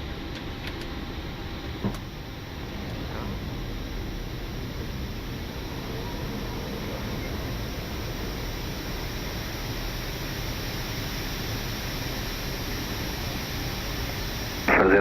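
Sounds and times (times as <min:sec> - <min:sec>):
airflow over airframe: 0:00.0 - 0:15.0
jet engines: 0:00.0 - 0:15.0.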